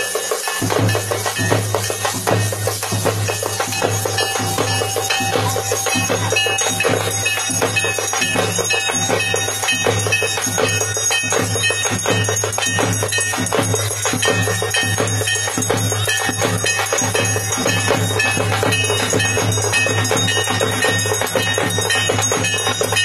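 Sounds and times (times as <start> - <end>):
bell-like jingling percussion: 0.0 - 23.0
fast live drumming: 0.0 - 23.0.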